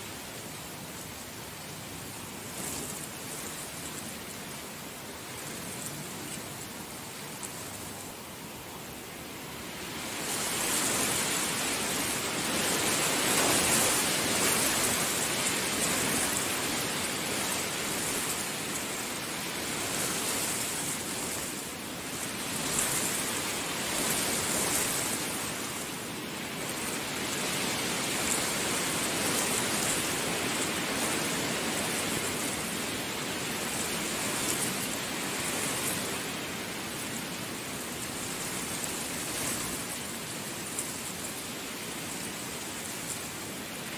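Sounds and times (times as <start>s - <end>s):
heavy rain downpour: 0.0s - 43.9s.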